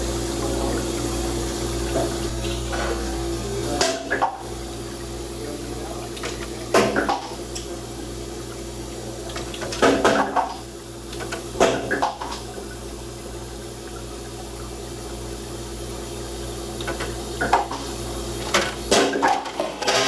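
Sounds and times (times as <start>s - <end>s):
ice machine humming: 0.0s - 20.0s.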